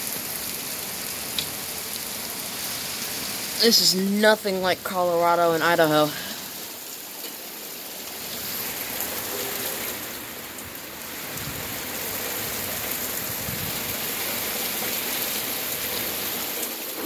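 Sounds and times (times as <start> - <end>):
rain pouring down: 0.0 - 17.0.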